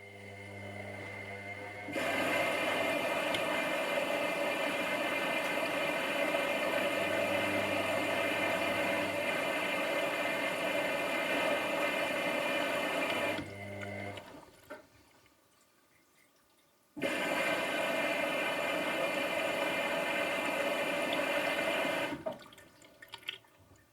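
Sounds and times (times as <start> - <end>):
washing machine running: 0.0 - 14.4, 17.0 - 22.4.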